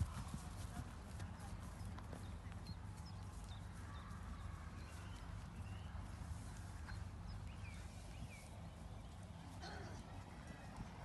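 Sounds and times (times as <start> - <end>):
horse hoofbeats on grass: 0.0 - 11.0.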